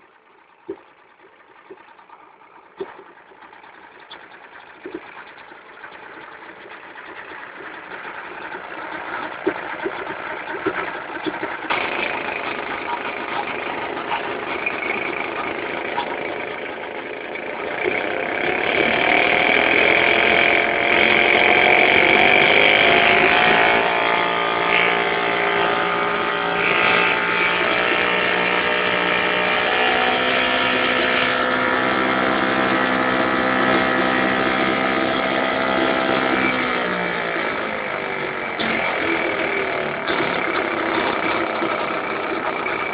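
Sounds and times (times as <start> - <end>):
outboard motor running: 0.0 - 42.9.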